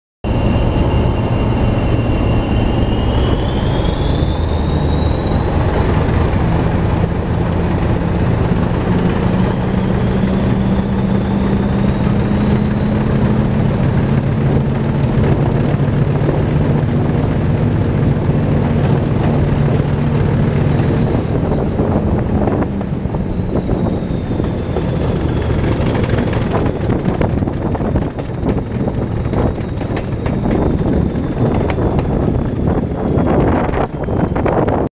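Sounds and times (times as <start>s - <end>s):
diesel locomotive engine: 0.2s - 34.9s
turbocharger whistle: 0.3s - 34.8s.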